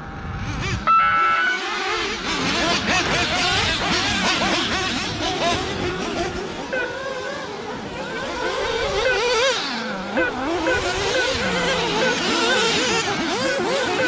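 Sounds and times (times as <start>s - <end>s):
model car engines revving: 0.0s - 14.0s.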